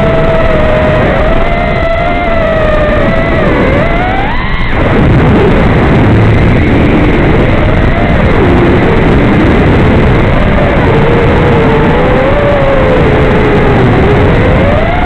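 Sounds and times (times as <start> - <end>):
drone motors whining: 0.0 - 15.0
rushing noise: 0.0 - 15.0.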